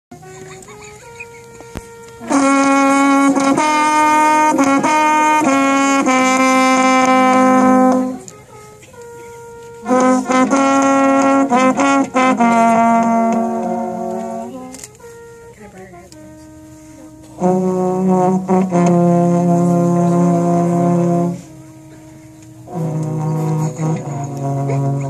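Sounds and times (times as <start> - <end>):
french horn ensemble playing: 0.1 - 25.0.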